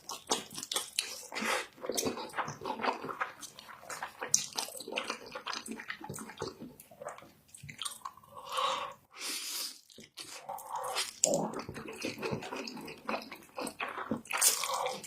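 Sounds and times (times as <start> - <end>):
crunching and chewing: 0.0 - 8.3, 9.8 - 15.0.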